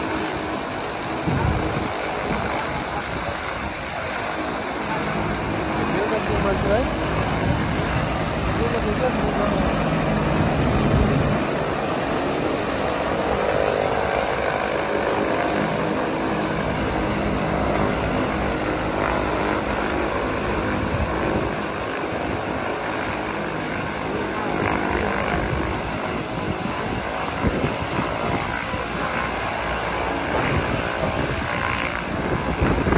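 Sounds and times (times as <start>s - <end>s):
turboprop engines droning: 0.0s - 32.9s.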